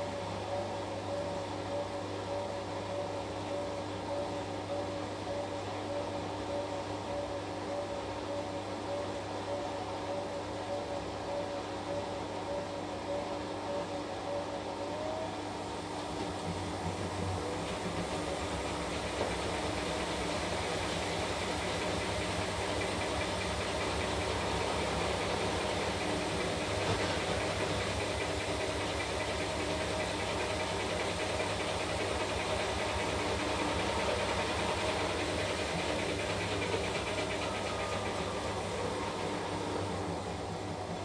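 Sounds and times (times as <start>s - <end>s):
washing machine running: 0.0s - 41.0s.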